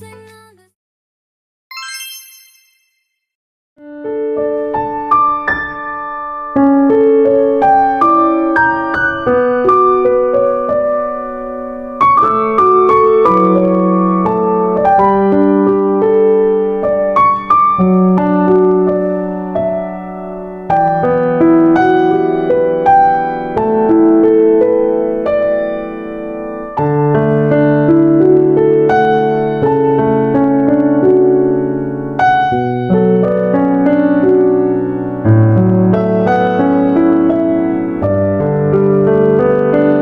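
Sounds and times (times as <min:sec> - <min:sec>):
slow gentle piano music: 0:03.8 - 0:40.0.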